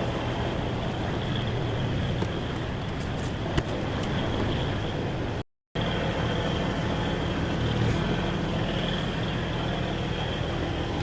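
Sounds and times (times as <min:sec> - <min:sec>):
low vehicle hum: 0:00.0 - 0:11.0.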